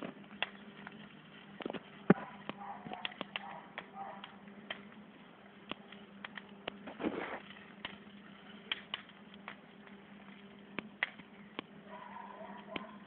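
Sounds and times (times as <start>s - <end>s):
faint steady hum: 0.0s - 13.0s
wood fire crackling and popping: 0.0s - 13.0s.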